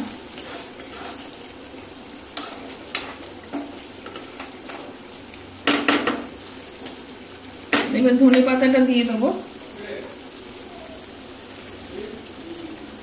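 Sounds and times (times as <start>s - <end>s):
gravy sizzling in a pan: 0.0s - 13.0s.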